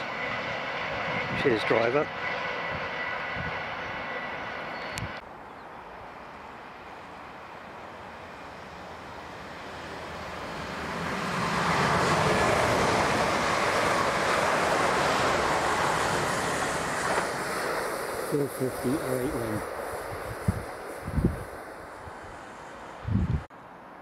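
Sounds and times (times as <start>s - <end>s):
train wheels rushing on rail: 0.0s - 5.2s, 7.1s - 23.5s.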